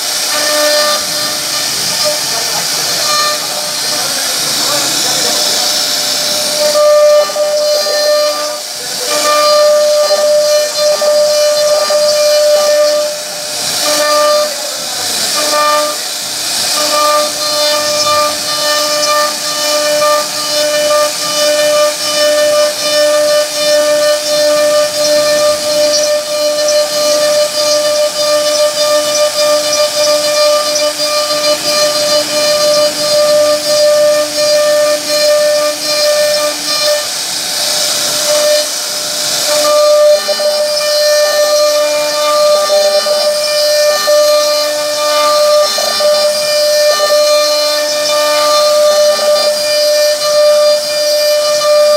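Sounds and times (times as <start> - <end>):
hiss of wood being cut: 0.0 - 51.9
router spindle whining: 0.0 - 51.9.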